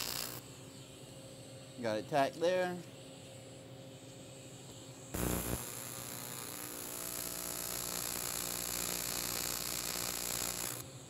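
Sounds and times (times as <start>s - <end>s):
constant low hum: 0.0s - 11.0s
welding arc buzzing hiss: 0.0s - 11.0s.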